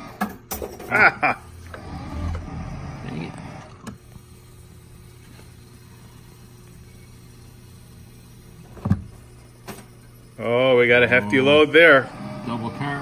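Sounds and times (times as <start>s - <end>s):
crane game electrical hum: 0.0s - 13.0s.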